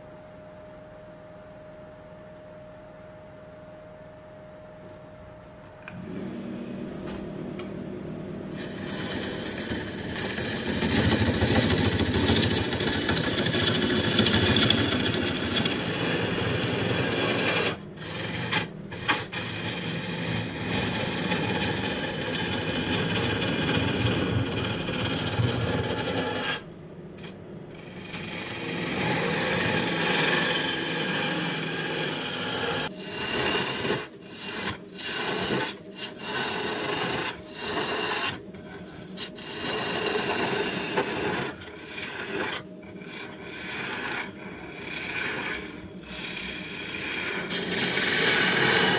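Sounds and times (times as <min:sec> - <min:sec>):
lathe tool scraping wood: 0:08.5 - 0:48.9.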